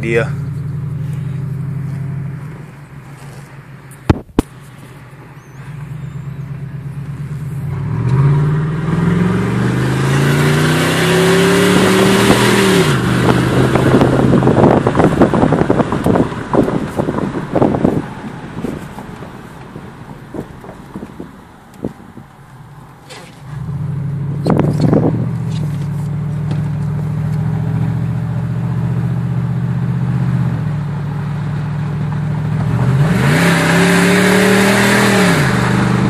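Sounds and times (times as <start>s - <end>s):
truck exhaust at full throttle: 0.0s - 36.0s.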